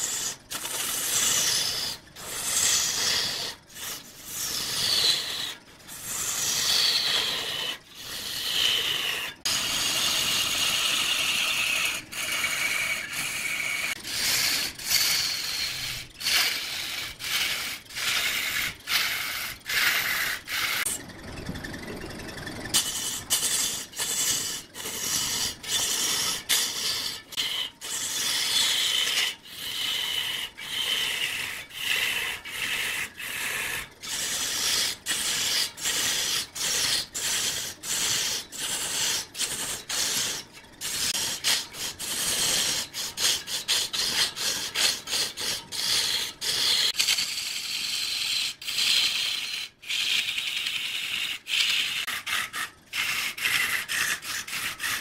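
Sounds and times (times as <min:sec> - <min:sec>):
lathe tool scraping wood: 0:00.0 - 0:55.0.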